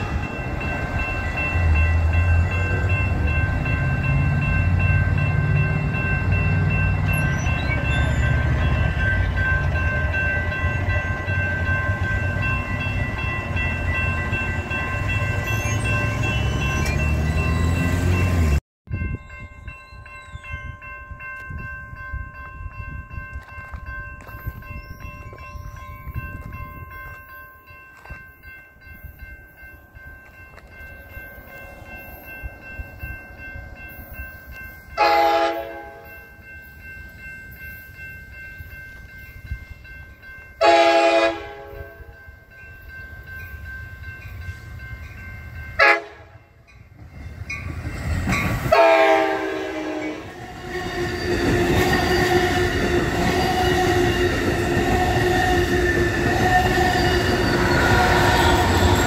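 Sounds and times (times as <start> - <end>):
crossing bells ringing: 0.0 - 59.0
train rumbling: 0.0 - 59.0.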